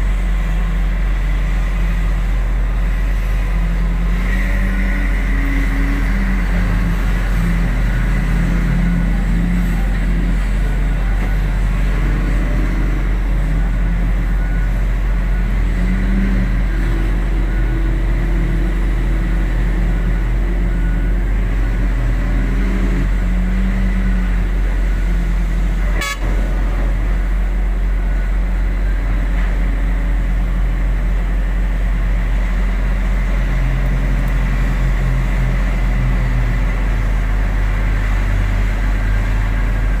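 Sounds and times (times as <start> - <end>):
heavy diesel engines working: 0.0 - 40.0.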